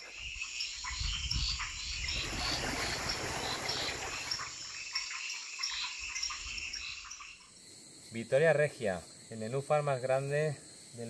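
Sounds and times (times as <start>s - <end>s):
frogs and insects calling: 0.0s - 11.0s.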